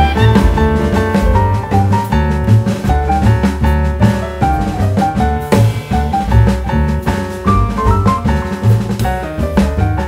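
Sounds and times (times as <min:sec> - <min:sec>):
drum-kit beat: 0:00.0 - 0:10.0
jazzy piano tune: 0:00.0 - 0:10.0.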